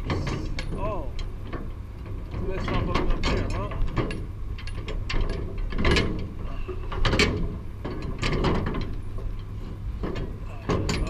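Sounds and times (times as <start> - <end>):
metal container clanks and creaks: 0.0 - 11.0
truck engine and hydraulics drone: 0.0 - 11.0.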